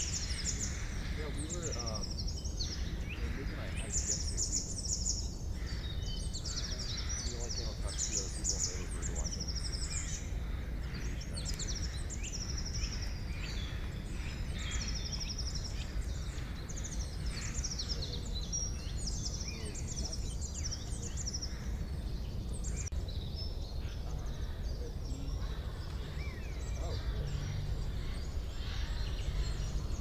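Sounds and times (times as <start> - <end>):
birds singing and trilling: 0.0 - 30.0
low background rumble: 0.0 - 30.0.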